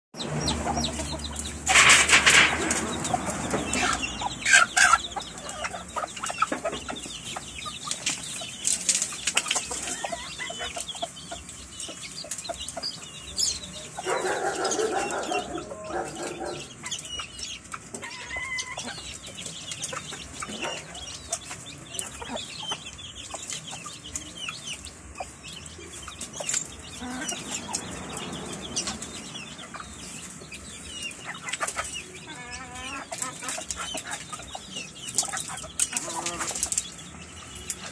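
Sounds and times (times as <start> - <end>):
chickens clucking: 0.2 - 37.9.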